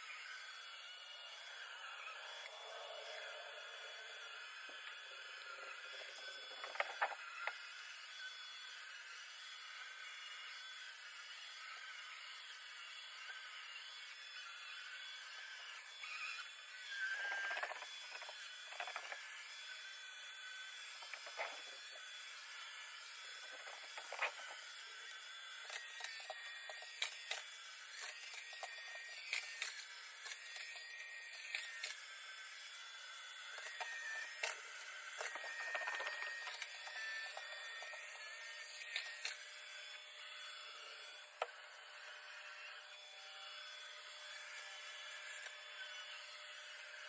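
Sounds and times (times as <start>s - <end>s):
robot vacuum whirring: 0.0s - 47.0s.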